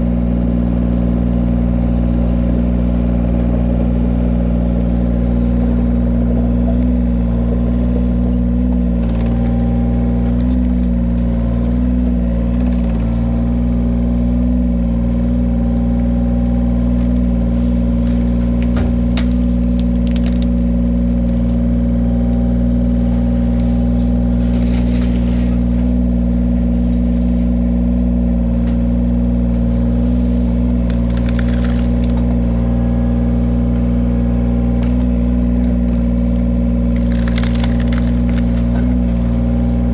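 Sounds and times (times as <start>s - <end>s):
log splitter engine running: 0.0s - 39.9s
wood crackling as it splits: 0.0s - 39.9s.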